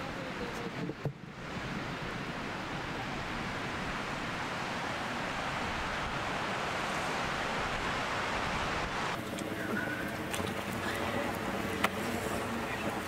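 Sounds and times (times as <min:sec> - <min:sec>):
fast mountain river rushing: 0:00.0 - 0:13.0.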